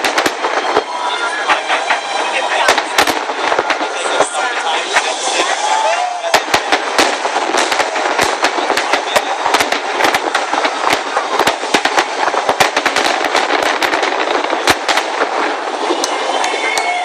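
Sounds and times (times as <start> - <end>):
dense firework crackle: 0.0 - 17.0
firework shells bursting: 0.0 - 17.0.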